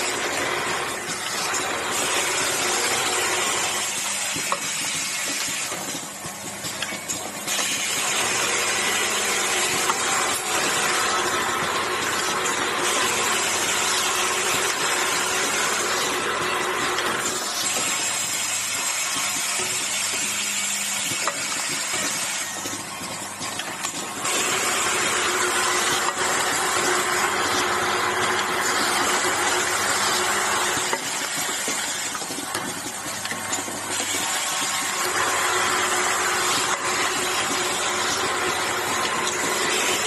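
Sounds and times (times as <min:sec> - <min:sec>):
machine hiss and hum: 0:00.0 - 0:40.0.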